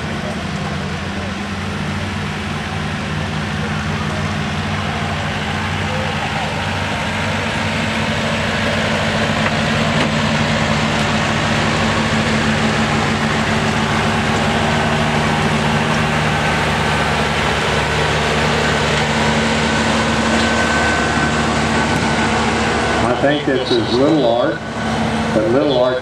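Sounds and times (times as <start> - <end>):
diesel tractor engine running: 0.0 - 26.0.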